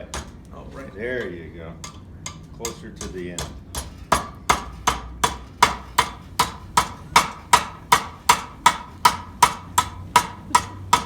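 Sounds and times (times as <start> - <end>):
hammer striking steel on anvil: 1.8 - 11.0.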